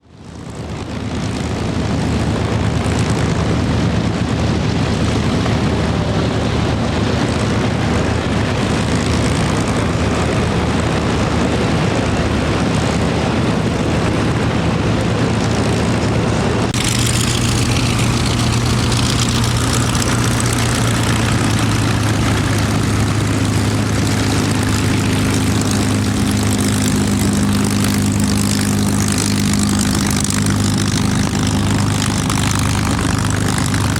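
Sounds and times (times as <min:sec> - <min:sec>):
propeller plane piston engines: 0:00.0 - 0:33.9.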